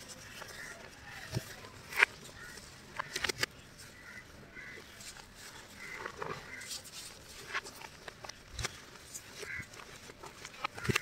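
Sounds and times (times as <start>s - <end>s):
sharp chalk crackles: 0.0s - 11.0s.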